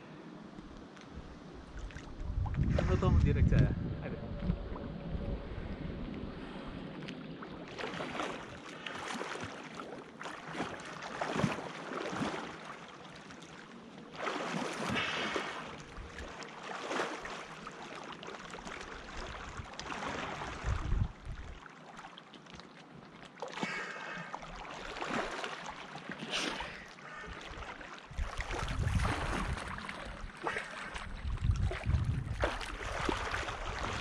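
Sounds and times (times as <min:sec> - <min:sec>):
water splashing and sloshing: 0:00.0 - 0:34.0.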